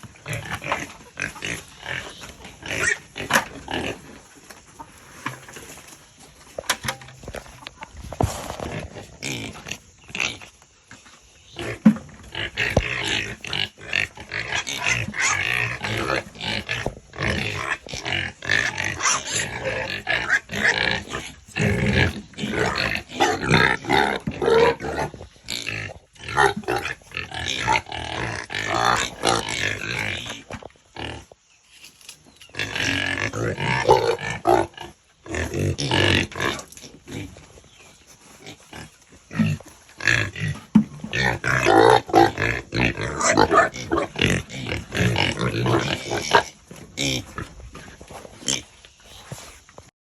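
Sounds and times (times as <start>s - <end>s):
pigs grunting and squealing: 0.0s - 5.9s, 6.8s - 10.6s, 11.4s - 31.3s, 32.5s - 49.4s.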